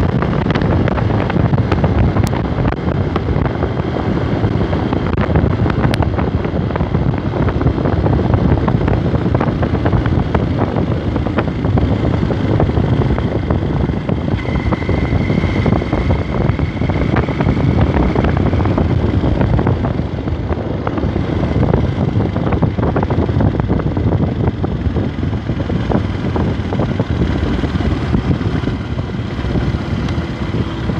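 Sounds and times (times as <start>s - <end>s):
motorcycle engine running: 0.0s - 30.9s
wind rushing on microphone: 0.0s - 30.9s.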